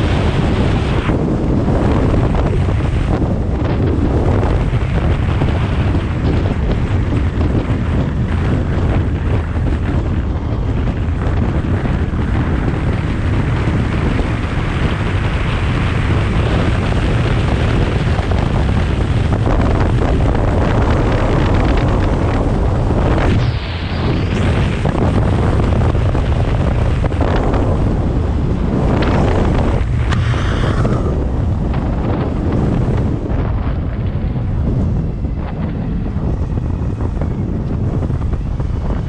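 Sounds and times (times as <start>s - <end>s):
road noise: 0.0s - 39.0s
wind buffeting microphone: 0.0s - 39.0s.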